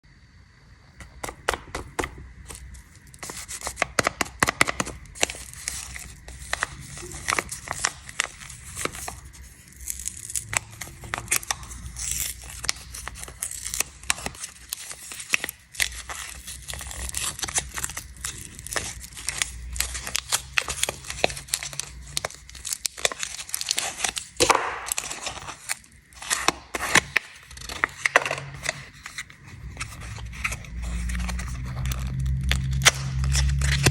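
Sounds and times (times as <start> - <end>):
snack wrappers crinkling and tearing: 1.0 - 33.9.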